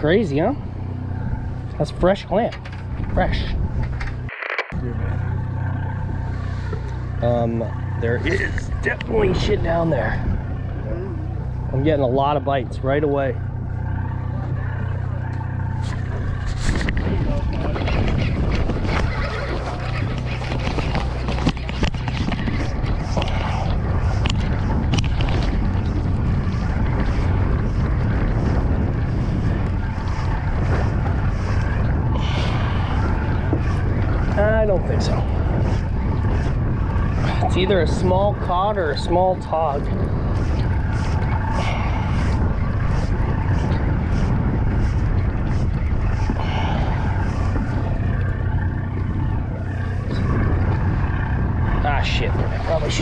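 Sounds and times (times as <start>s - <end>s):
boat engine rumble: 0.0s - 53.0s
wind on microphone: 0.0s - 53.0s.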